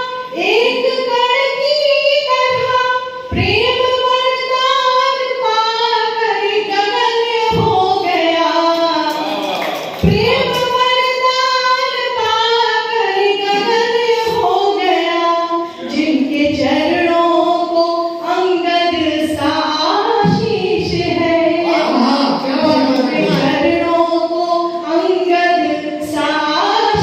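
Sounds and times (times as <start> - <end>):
woman singing into microphone: 0.0 - 9.1, 10.0 - 27.0.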